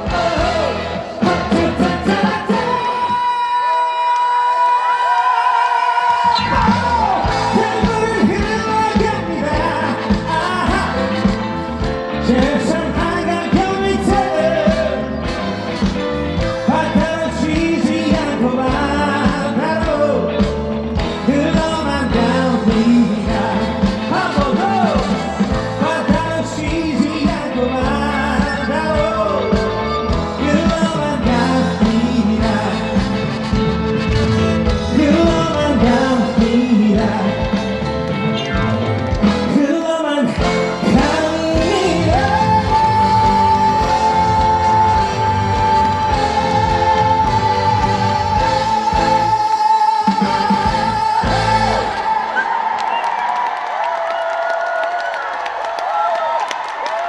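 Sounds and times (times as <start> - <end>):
upbeat song with band: 0.0 - 55.1.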